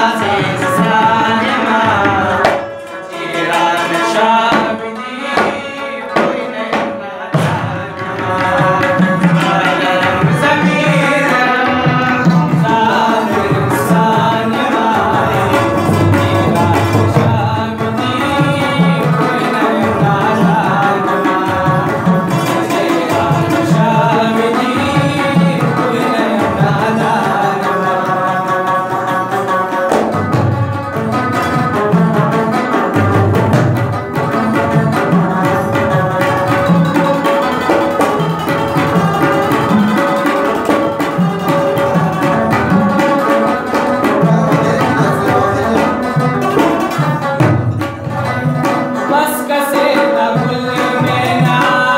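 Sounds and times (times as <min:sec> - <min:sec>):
hand drum rhythm: 0:00.0 - 0:51.9
plucked rabab strings: 0:00.0 - 0:51.9.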